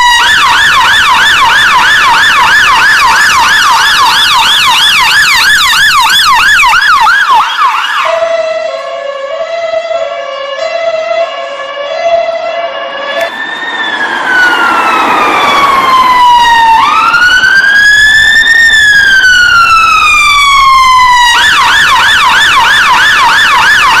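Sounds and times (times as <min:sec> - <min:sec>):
ambulance siren: 0:00.0 - 0:24.0.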